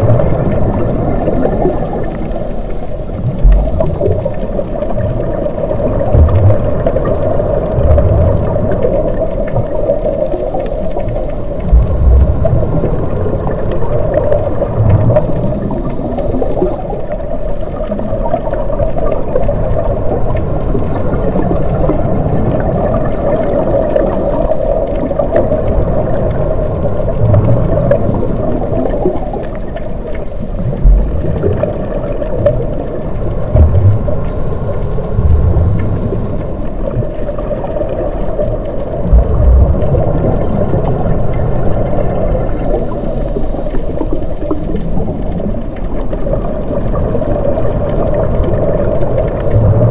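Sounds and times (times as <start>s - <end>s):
low gurgling rumbles: 0.0s - 49.9s
underwater hum: 0.0s - 49.9s.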